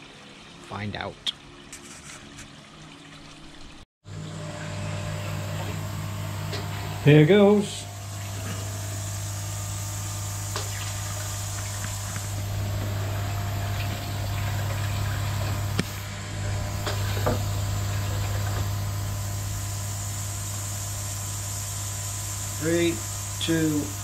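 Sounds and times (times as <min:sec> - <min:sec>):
faint water noise: 0:00.0 - 0:19.6
filter pump electric hum: 0:00.0 - 0:24.0.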